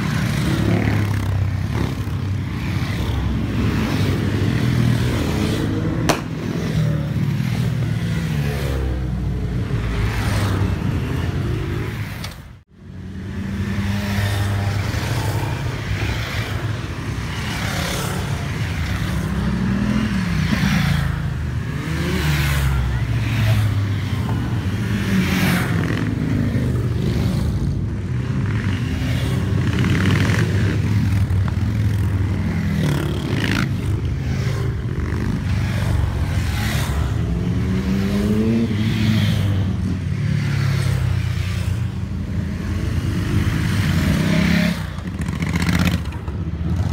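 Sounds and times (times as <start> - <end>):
motorcycles riding past: 0.0 - 46.9.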